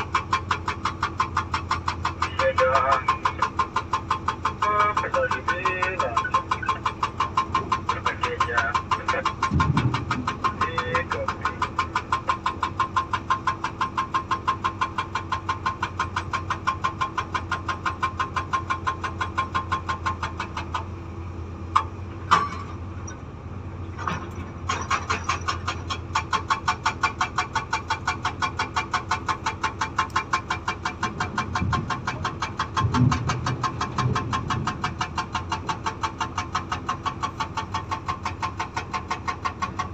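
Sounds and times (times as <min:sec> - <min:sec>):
hydraulic breaker hammer pounding stone: 0:00.0 - 0:21.0, 0:21.7 - 0:22.8, 0:24.0 - 0:39.9
excavator diesel hum: 0:00.0 - 0:39.9.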